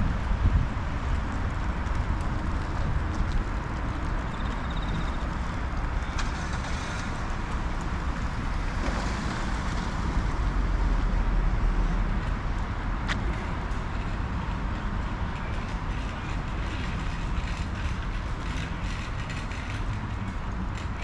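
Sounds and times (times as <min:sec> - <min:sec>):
wind rushing over microphone: 0:00.0 - 0:19.2
road and tyre noise: 0:00.0 - 0:21.0.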